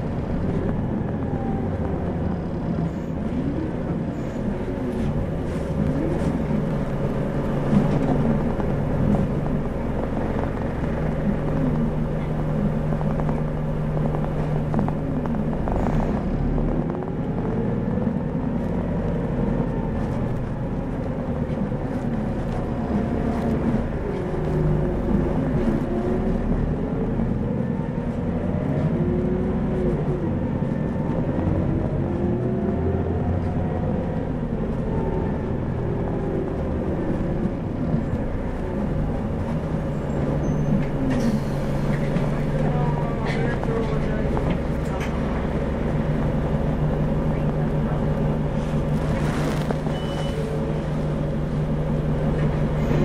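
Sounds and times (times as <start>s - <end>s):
bus diesel engine revving: 0.0s - 53.0s.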